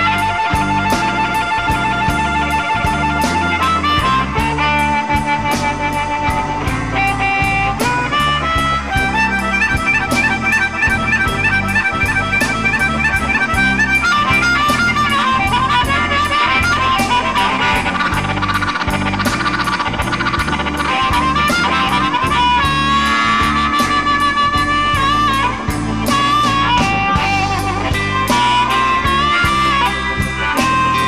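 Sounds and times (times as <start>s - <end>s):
amplified harmonica bending notes: 0.0s - 31.0s
blues band playing: 0.0s - 31.0s.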